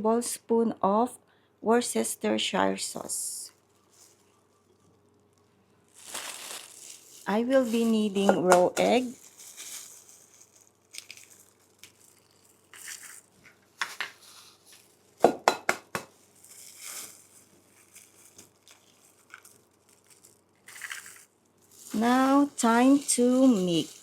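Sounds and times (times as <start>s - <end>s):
soft rustles: 3.5s - 15.2s, 16.1s - 24.0s.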